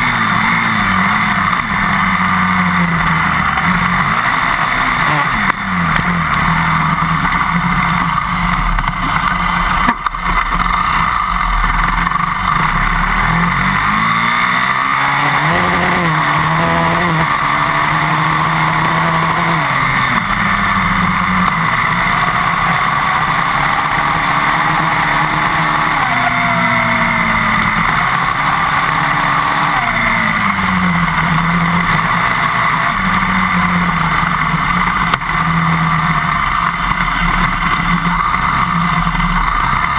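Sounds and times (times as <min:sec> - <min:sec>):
dirt bike engine revving: 0:00.0 - 0:39.9
wind and tyre noise: 0:00.0 - 0:39.9.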